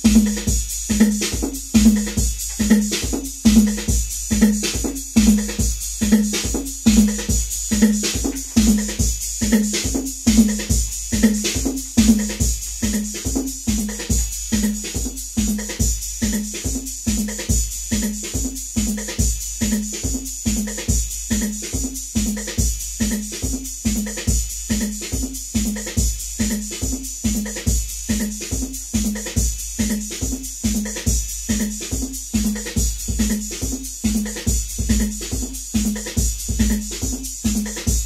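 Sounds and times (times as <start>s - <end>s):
drum machine beat: 0.0s - 38.0s.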